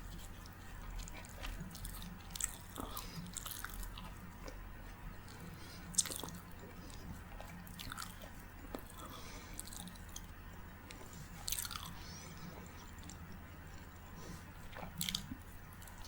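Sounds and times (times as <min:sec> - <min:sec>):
person chewing: 0:00.1 - 0:04.6, 0:05.2 - 0:10.3, 0:10.9 - 0:16.0.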